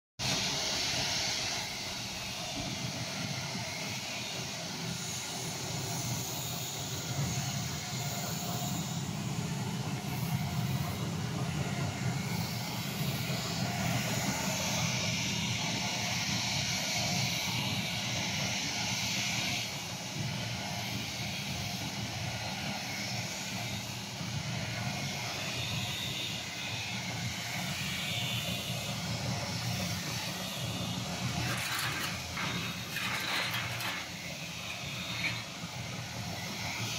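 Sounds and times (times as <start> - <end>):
machine hiss: 0.2 - 36.9
mixing mill mechanical hum: 0.2 - 36.9.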